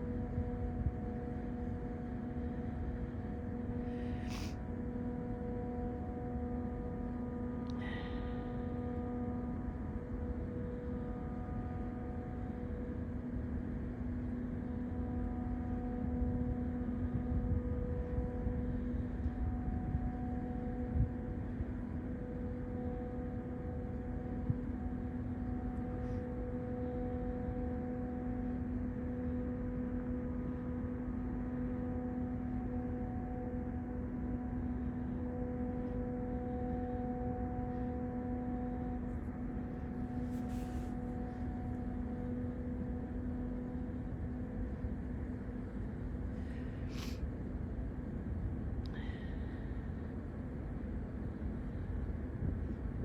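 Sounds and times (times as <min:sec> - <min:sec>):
engine drone: 0:00.0 - 0:53.0.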